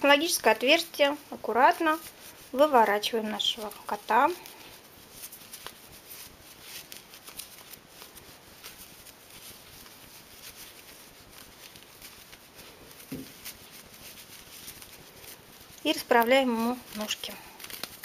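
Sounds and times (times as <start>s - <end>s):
rustling knitted fabric: 0.0s - 18.0s.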